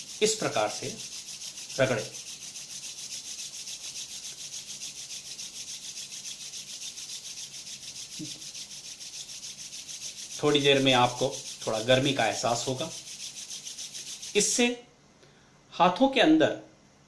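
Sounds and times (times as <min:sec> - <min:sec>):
palms rubbing together: 0:00.0 - 0:14.6.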